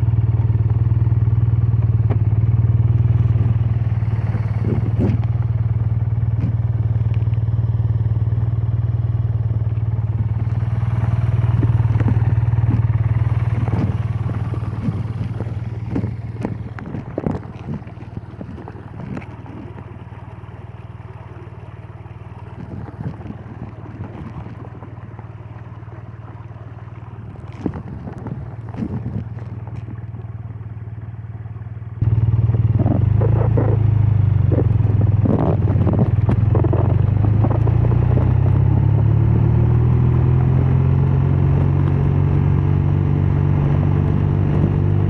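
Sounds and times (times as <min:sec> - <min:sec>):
motorcycle engine under throttle: 0:00.0 - 0:45.0
exhaust cracks: 0:01.9 - 0:08.5, 0:09.6 - 0:30.7, 0:32.0 - 0:45.0.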